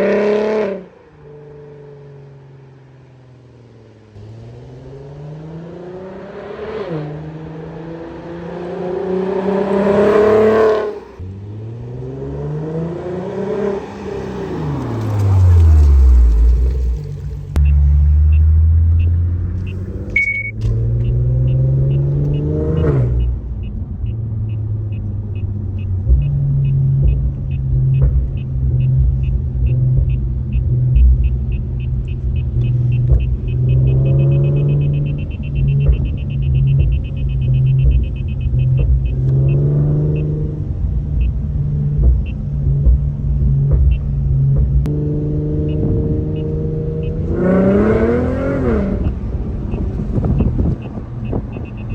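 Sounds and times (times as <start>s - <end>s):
car engine revving: 4.0s - 51.9s.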